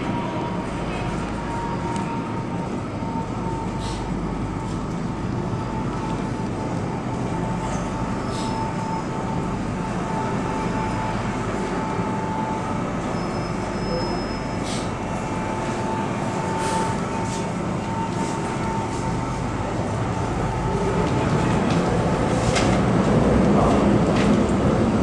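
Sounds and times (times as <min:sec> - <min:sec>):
train rumbling with high whine: 0:00.0 - 0:25.0.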